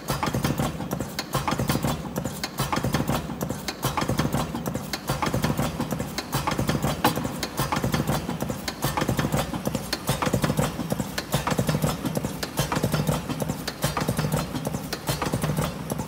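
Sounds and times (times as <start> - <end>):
rapid mechanical clicking: 0.0 - 16.0.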